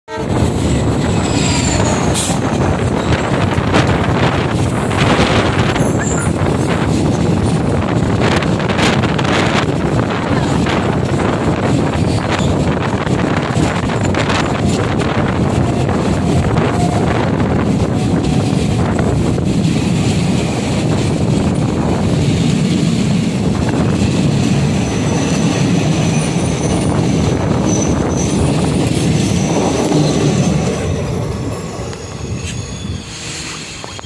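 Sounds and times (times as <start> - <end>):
wind buffeting microphone: 0.1 - 32.5
train wheels rumbling on rail: 0.1 - 34.0.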